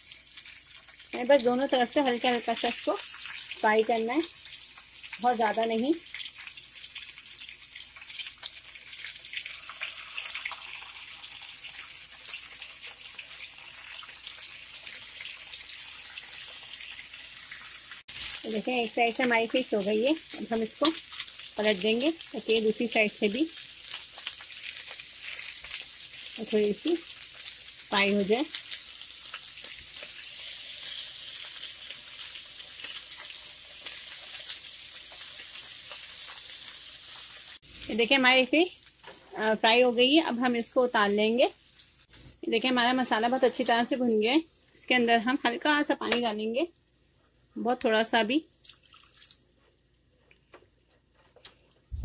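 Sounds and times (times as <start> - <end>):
oil crackles and pops: 0.0 - 38.0, 38.6 - 39.2, 41.0 - 42.4, 48.5 - 52.0
fish sizzling in hot oil: 0.0 - 43.9.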